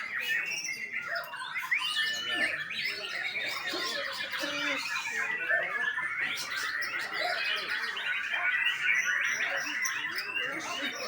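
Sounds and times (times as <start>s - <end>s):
songbird singing chirps and whistles: 0.0s - 11.0s.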